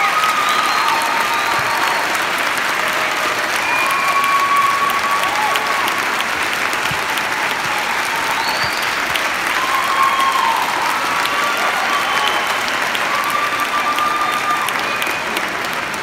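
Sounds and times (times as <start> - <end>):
audience clapping: 0.0 - 16.0.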